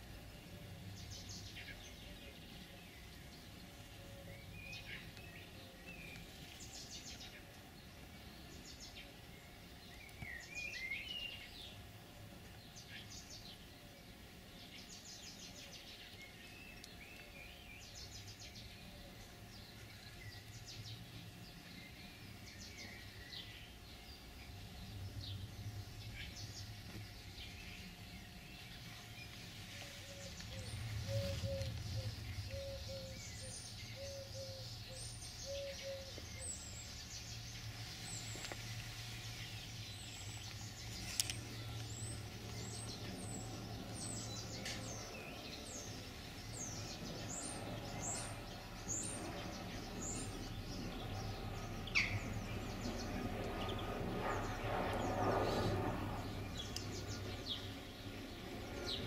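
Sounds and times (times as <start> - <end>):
low steady rumble: 0.0 - 59.0
small birds chirping: 0.0 - 59.0.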